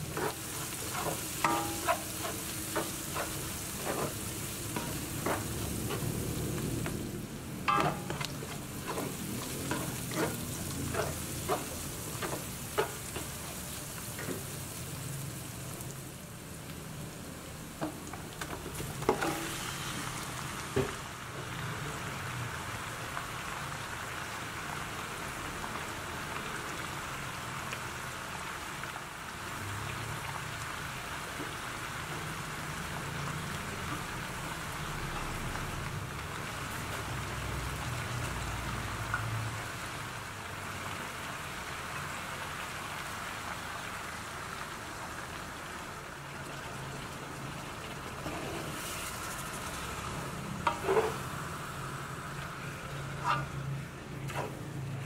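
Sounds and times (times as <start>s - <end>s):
chicken frying in hot oil: 0.0s - 55.0s.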